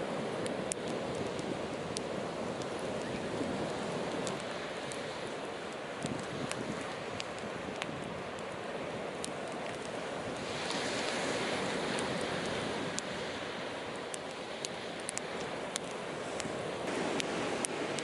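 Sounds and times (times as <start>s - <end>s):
fire crackling and popping: 0.0s - 18.0s
sea surf washing on shore: 0.0s - 18.0s.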